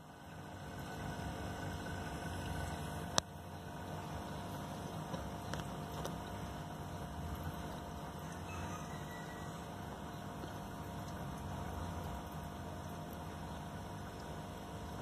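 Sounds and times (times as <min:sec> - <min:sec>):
aquarium filter hum and hiss: 0:00.0 - 0:15.0.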